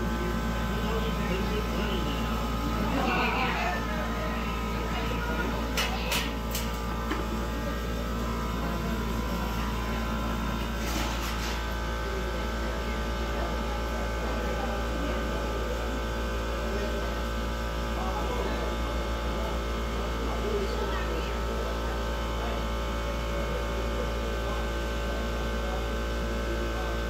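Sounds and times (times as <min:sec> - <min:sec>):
faint background voices: 0:00.0 - 0:27.0
furnace burners and blowers roaring: 0:00.0 - 0:27.0.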